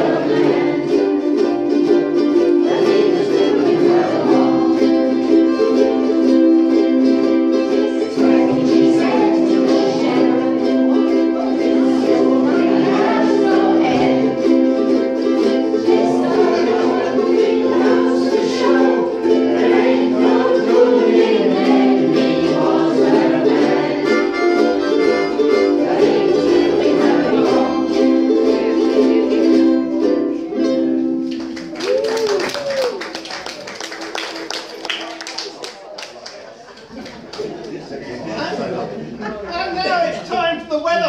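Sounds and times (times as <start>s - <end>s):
ukuleles strumming: 0.0s - 35.7s.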